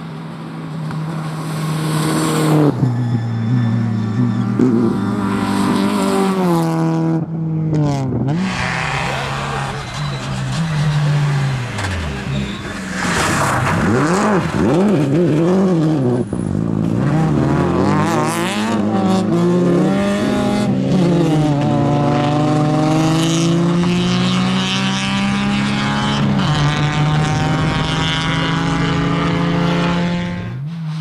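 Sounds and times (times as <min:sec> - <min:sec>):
rally car engine revving: 0:00.2 - 0:31.0.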